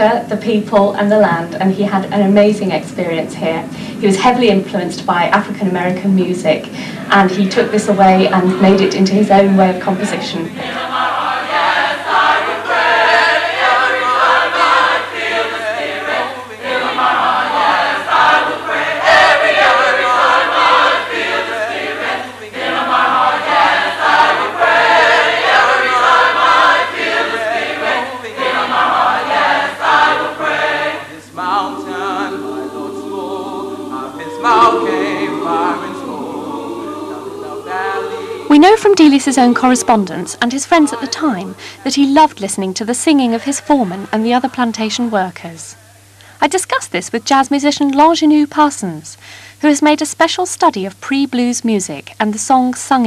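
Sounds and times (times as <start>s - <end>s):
congregation singing as choir: 0.0s - 46.2s.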